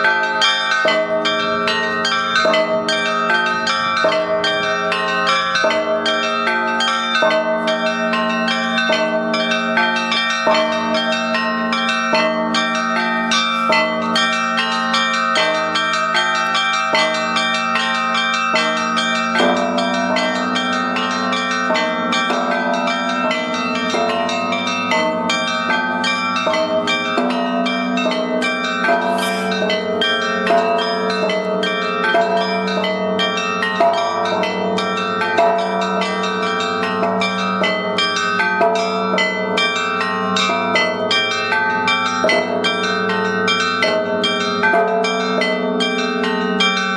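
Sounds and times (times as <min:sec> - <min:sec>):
deep bell ringing: 0:00.0 - 0:46.9
large bells ringing: 0:00.0 - 0:46.9
small bells struck rapidly: 0:00.0 - 0:46.9.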